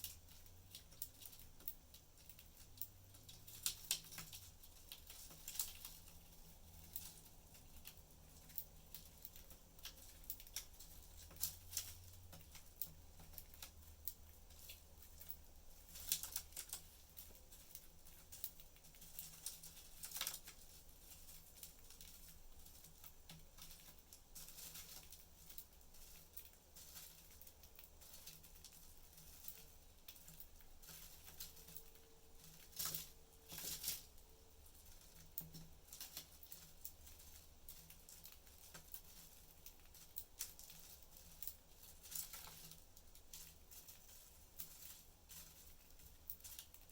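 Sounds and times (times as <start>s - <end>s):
budgies pecking and scratching in cage: 0.0s - 46.9s.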